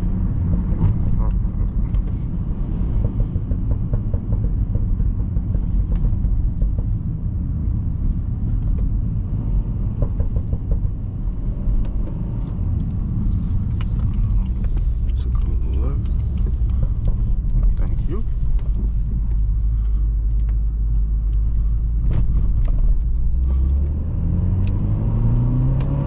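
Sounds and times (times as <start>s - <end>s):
car engine and exhaust rumble: 0.0s - 26.0s.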